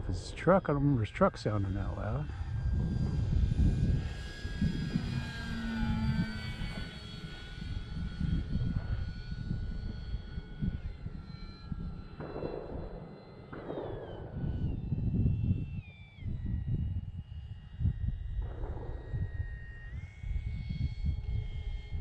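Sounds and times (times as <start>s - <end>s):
model plane electric motor whining: 0.0s - 22.0s
wind rumbling on microphone: 0.0s - 22.0s.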